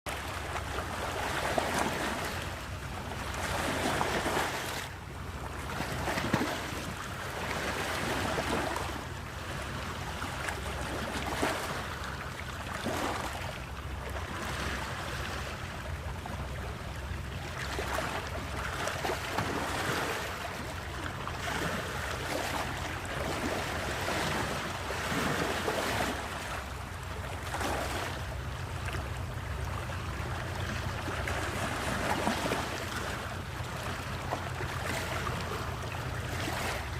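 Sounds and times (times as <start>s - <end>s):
sea waves washing: 0.1s - 36.9s
steady low hum: 0.1s - 36.9s.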